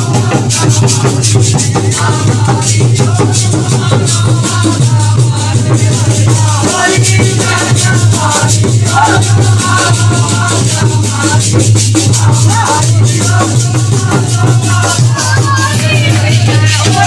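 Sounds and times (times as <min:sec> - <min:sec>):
fast rattling percussion: 0:00.0 - 0:17.0.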